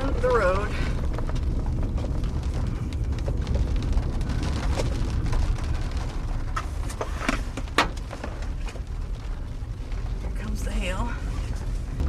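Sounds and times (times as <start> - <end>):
rain drops ticking on car: 0.0 - 12.0
steady low rumble: 0.0 - 12.0.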